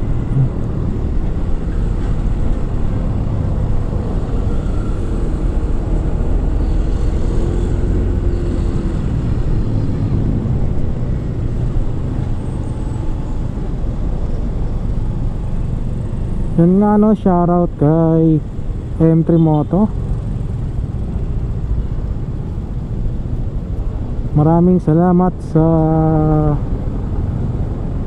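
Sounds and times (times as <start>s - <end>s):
wind and road noise: 0.0s - 28.0s.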